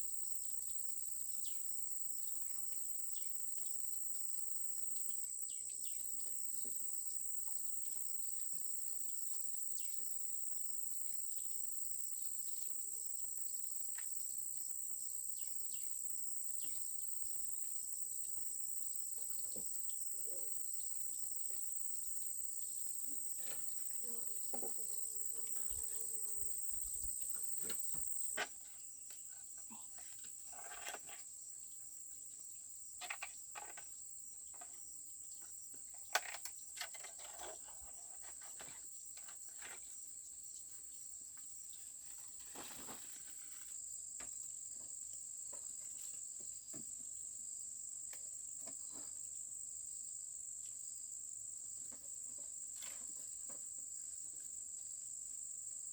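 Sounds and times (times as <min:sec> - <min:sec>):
shrill insect chorus: 0:00.0 - 0:55.9.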